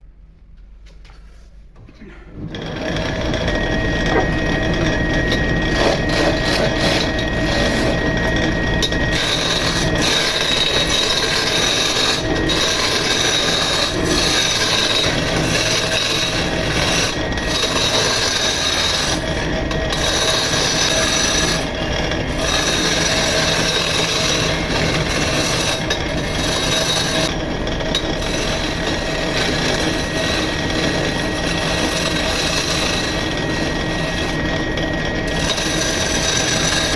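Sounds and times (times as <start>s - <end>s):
lathe chisel cutting wood: 2.4s - 36.9s.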